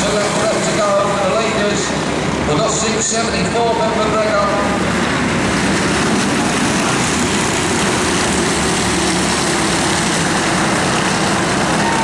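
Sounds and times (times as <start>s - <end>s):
race car engines racing: 0.0s - 12.0s.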